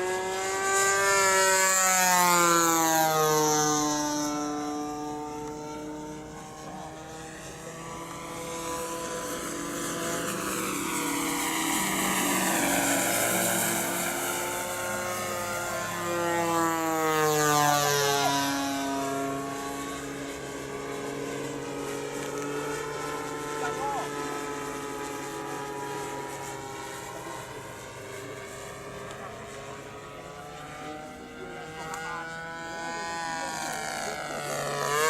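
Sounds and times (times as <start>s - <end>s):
model airplane engine drone: 0.0s - 35.0s.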